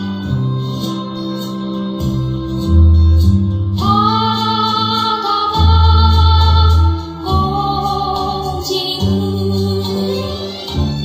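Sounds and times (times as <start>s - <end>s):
ballad with steady bass line: 0.0s - 11.0s.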